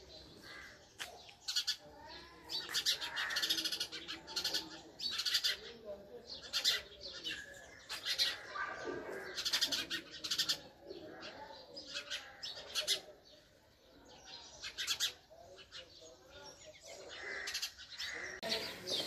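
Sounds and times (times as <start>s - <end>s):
sparrow chirping: 0.0s - 19.0s.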